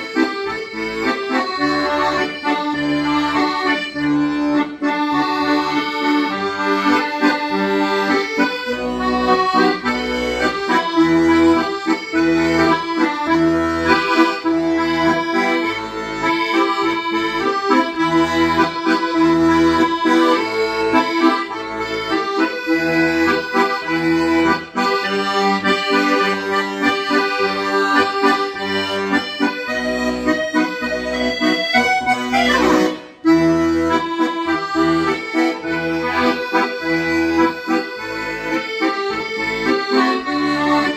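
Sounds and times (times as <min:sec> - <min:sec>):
accordion playing slow melody: 0:00.0 - 0:40.9.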